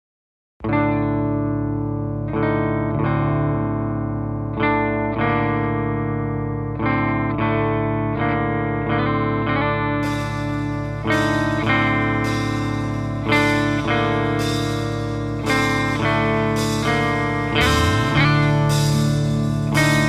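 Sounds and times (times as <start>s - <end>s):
electric guitar chords ringing: 0.6s - 20.0s.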